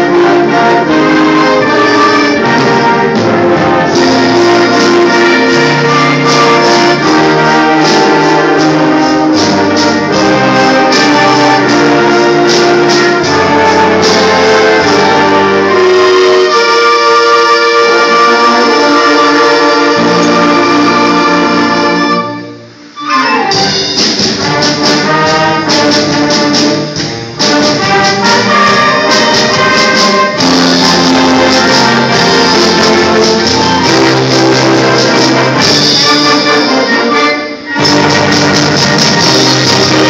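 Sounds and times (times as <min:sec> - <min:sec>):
concert band playing: 0:00.0 - 0:40.0.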